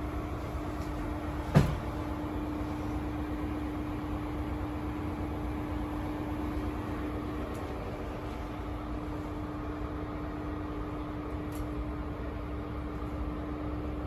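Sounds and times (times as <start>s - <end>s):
train equipment hum: 0.0s - 14.0s.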